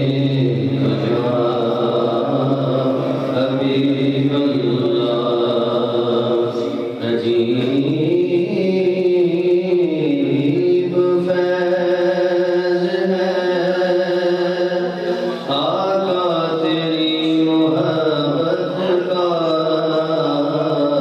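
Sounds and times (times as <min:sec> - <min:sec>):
man singing into microphone: 0:00.0 - 0:21.0.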